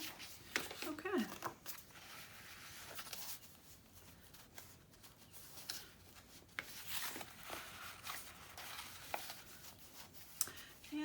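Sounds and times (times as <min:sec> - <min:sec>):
paper rustling and sliding: 0:00.0 - 0:10.4.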